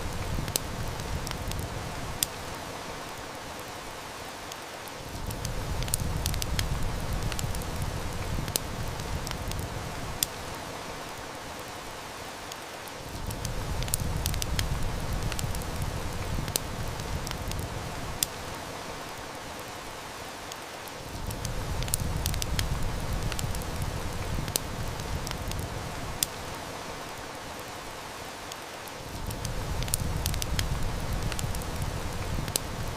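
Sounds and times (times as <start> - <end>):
heavy rain falling: 0.0 - 32.9
wood fire crackling: 0.0 - 32.9.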